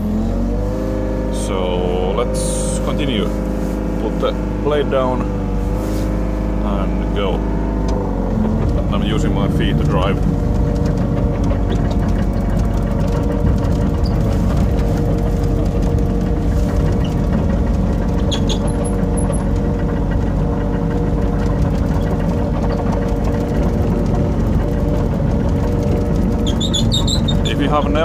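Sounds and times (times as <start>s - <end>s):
excavator engine running under load: 0.0s - 28.0s.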